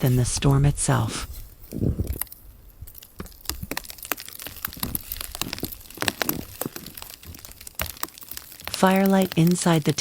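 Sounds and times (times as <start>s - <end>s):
sharp crackles and crinkles: 0.0s - 10.0s.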